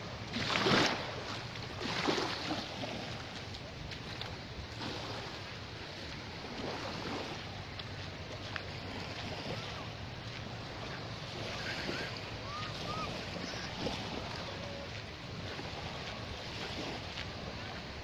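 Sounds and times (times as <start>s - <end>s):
small waves washing ashore: 0.0s - 18.0s.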